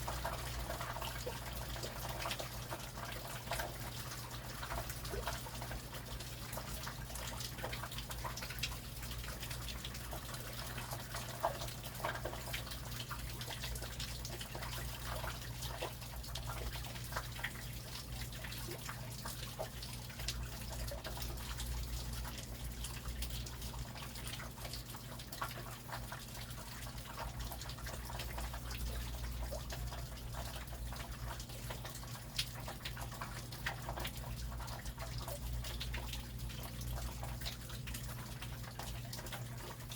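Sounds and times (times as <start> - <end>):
close drips and patters: 0.0 - 39.9
low steady hum: 0.0 - 39.9.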